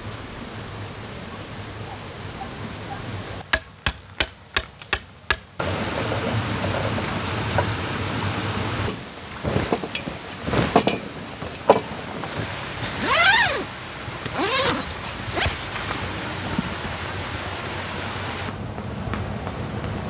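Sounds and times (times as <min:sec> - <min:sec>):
stream water rushing: 0:00.0 - 0:18.5.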